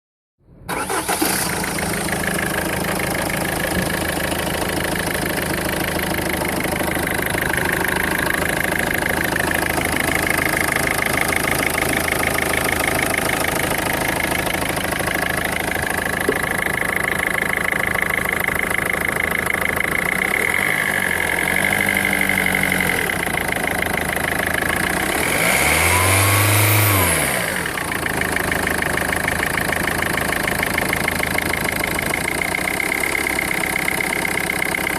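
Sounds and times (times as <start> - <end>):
diesel engine idling and revving: 0.5 - 34.9.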